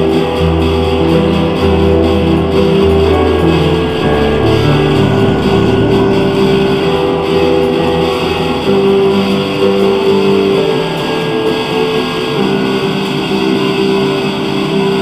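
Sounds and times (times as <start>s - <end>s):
instrumental music with held notes: 0.0s - 15.0s.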